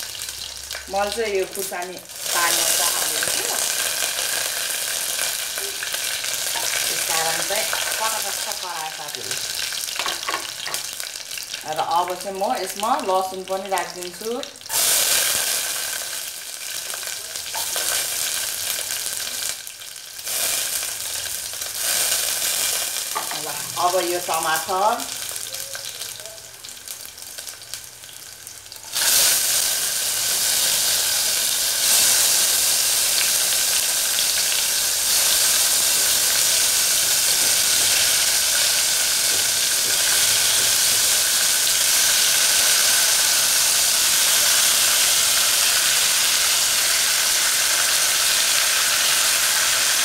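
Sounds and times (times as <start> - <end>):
tomatoes sizzling in hot oil: 0.0 - 50.0.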